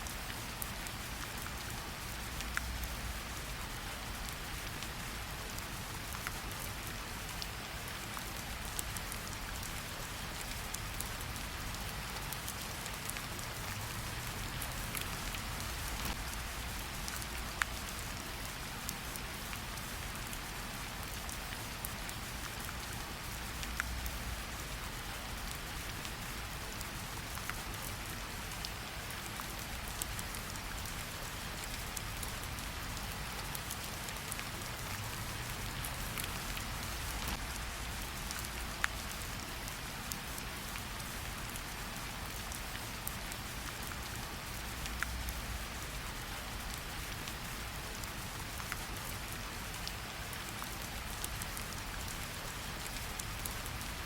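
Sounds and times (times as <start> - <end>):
rain pattering on leaves: 0.0 - 54.0.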